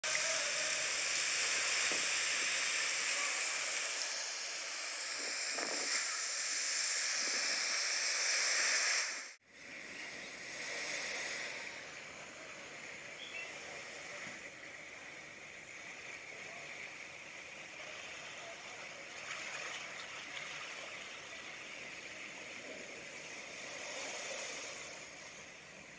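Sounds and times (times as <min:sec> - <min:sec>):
rushing floodwater: 0:00.0 - 0:05.8, 0:09.4 - 0:25.9
gale wind and rain: 0:00.0 - 0:25.9.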